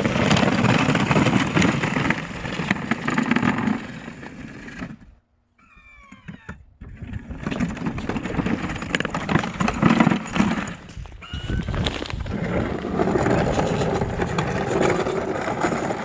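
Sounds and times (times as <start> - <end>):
snow plow grinding through snow: 0.0 - 5.2, 6.9 - 16.0.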